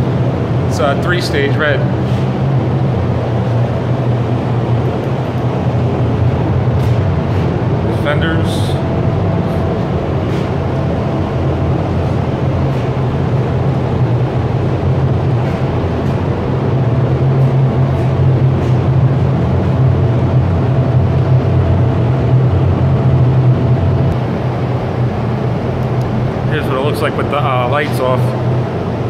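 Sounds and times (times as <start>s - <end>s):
ventilation fans droning: 0.0s - 29.0s.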